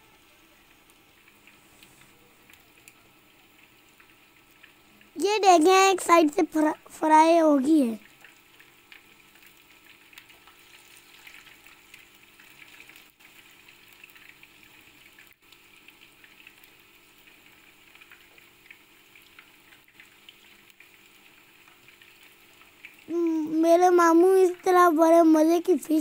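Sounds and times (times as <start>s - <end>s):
fish frying in oil: 0.0s - 26.0s.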